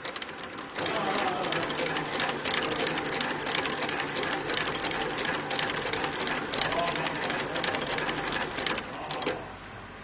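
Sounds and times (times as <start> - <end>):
stitching machine clatter: 0.0 - 9.5.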